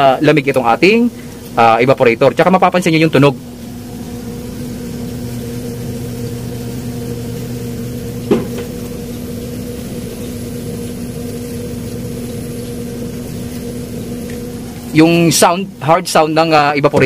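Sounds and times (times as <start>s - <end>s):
refrigeration system humming: 0.0s - 17.0s.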